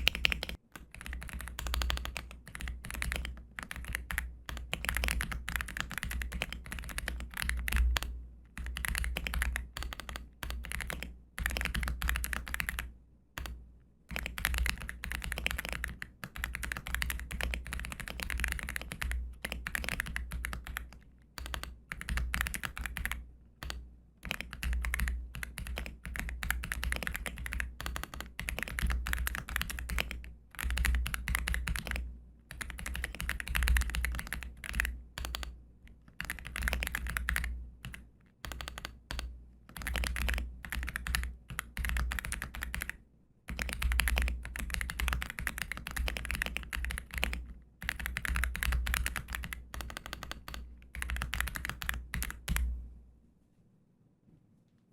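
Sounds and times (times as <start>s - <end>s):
mechanical keyboard typing: 0.0s - 52.7s.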